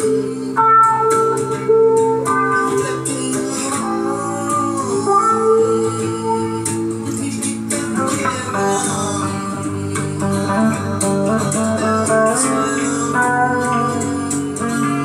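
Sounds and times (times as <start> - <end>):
blues guitar playing: 0.0 - 15.0.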